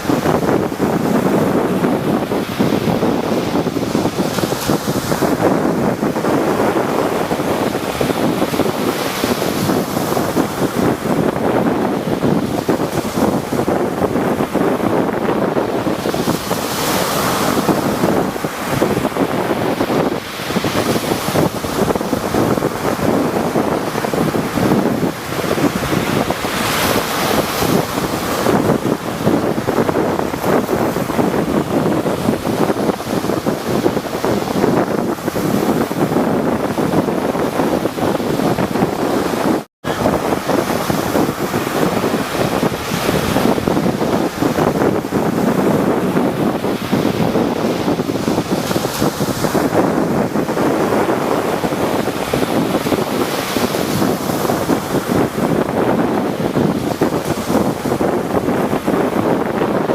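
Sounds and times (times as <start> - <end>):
rough surf breaking: 0.0 - 59.9
wind buffeting microphone: 0.0 - 59.9.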